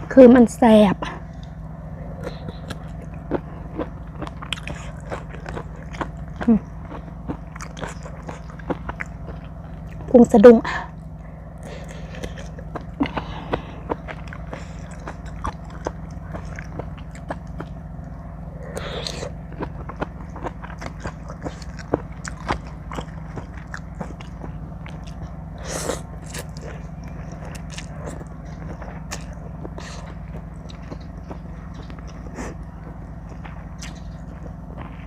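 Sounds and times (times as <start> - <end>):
steady low hum: 0.0 - 35.0
person chewing crunchy food: 1.2 - 10.2, 10.9 - 35.0.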